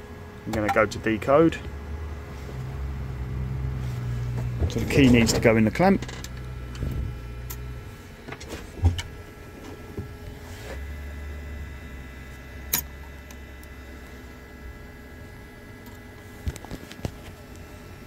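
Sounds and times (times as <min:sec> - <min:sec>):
low steady machine hum: 0:00.0 - 0:18.0.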